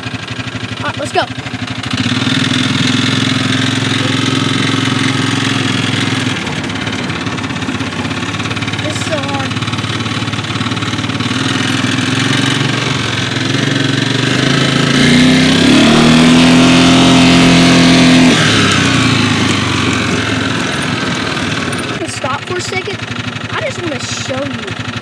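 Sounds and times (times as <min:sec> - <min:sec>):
utility vehicle engine running: 0:00.0 - 0:25.0.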